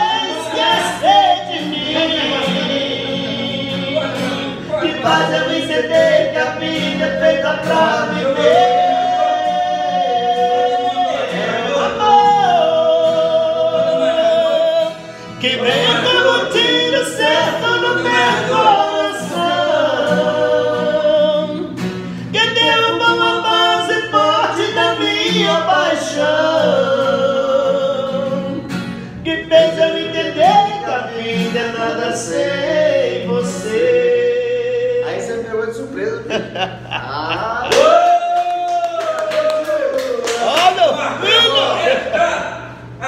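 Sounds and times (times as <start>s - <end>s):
two men singing ballad: 0.0s - 35.1s
strummed acoustic guitar: 0.0s - 37.1s.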